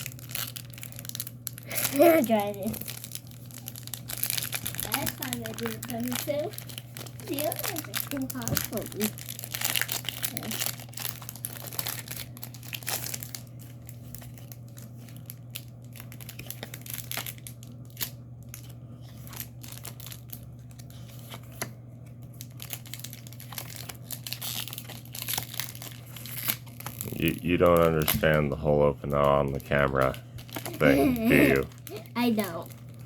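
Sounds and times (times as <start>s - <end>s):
wrapper crinkling and tearing: 0.0s - 33.0s.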